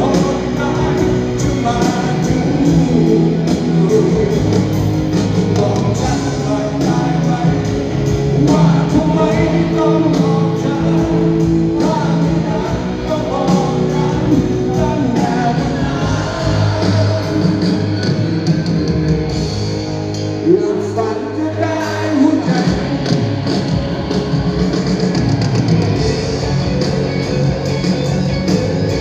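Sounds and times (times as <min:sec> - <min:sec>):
man singing rock ballad: 0:00.0 - 0:25.1, 0:25.9 - 0:29.0
electric guitar: 0:00.0 - 0:29.0.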